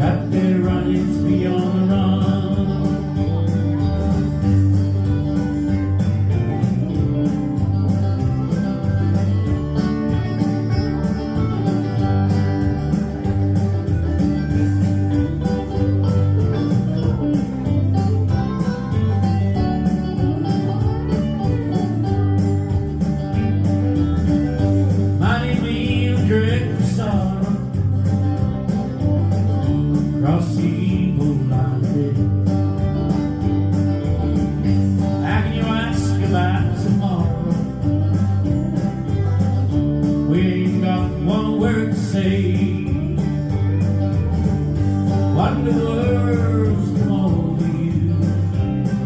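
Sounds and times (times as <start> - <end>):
guitar: 0.0 - 49.0
live country band playing: 0.0 - 49.0
steady bass beat: 0.0 - 49.0.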